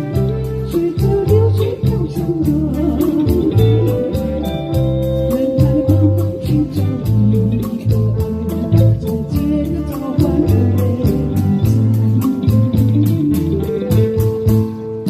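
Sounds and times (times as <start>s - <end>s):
bass guitar: 0.0s - 15.0s
guitar: 0.0s - 15.0s
steady drum beat: 0.0s - 15.0s.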